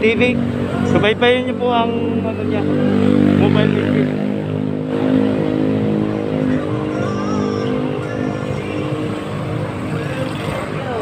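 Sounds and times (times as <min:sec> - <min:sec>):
motorcycles passing: 0:00.0 - 0:11.0
nearby engine drone: 0:00.0 - 0:11.0.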